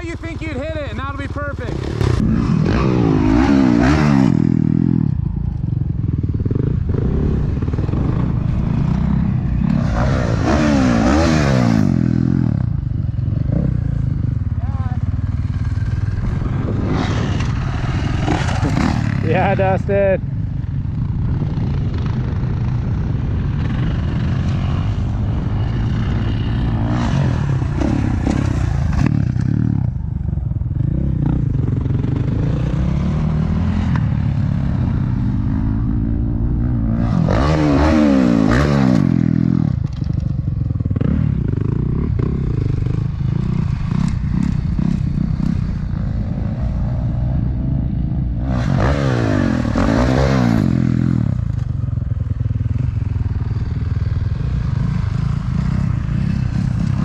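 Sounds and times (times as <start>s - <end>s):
dirt bike engine revving: 0.0s - 20.2s, 20.9s - 30.0s, 30.7s - 51.7s.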